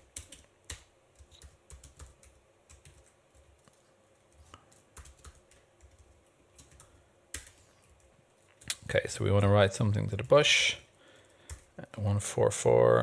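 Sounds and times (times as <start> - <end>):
faint computer keyboard typing: 0.0 - 8.9, 10.2 - 11.8.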